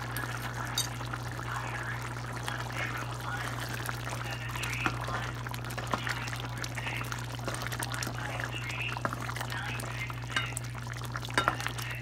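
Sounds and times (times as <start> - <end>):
gravy bubbling and popping: 0.0 - 12.0.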